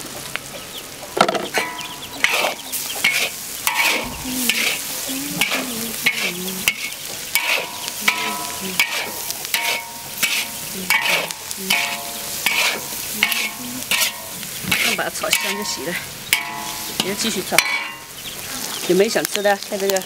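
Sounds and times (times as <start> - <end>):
meat sizzling in hot oil: 0.0 - 20.0
metal spatula scraping wok: 1.4 - 18.8.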